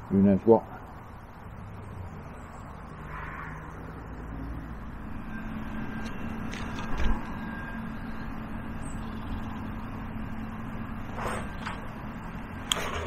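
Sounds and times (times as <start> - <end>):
low mechanical hum: 0.0 - 13.0
outdoor rumbling background: 0.0 - 13.0.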